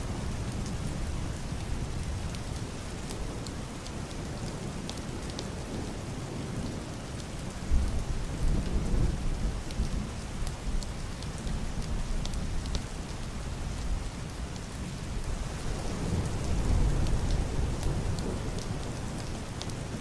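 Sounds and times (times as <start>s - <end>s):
heavy rain on roof and window: 0.0s - 20.0s.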